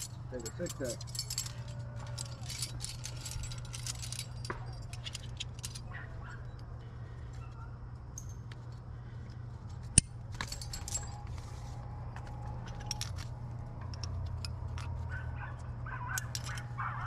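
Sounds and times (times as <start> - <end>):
climbing gear clinking: 0.0 - 17.0.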